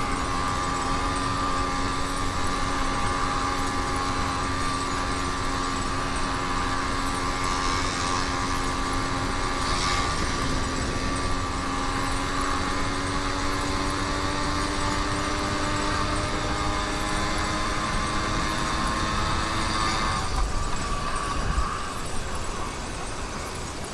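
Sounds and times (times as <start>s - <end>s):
two-stroke engine running: 0.0s - 23.9s.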